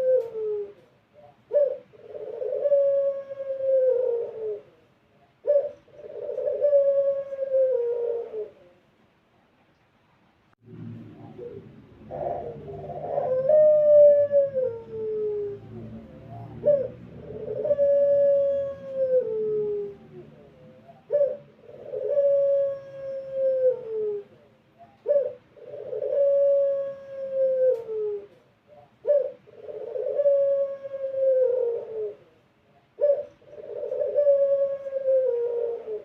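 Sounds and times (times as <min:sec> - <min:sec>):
dove cooing: 0:00.0 - 0:08.9, 0:10.9 - 0:36.0.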